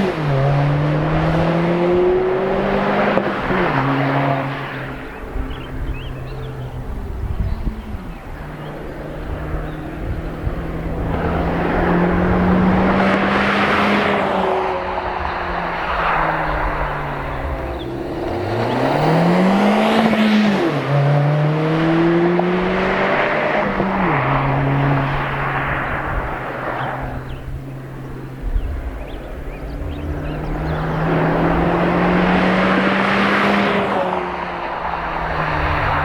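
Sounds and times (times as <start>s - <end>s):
car engine accelerating: 0.0s - 36.0s
tyre and wind noise: 0.0s - 36.0s.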